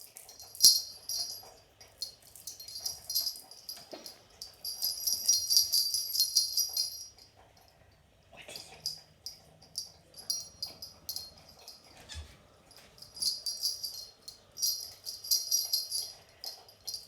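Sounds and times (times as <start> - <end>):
small jingle bell rattling: 0.0 - 7.8, 8.7 - 12.0, 12.7 - 17.0.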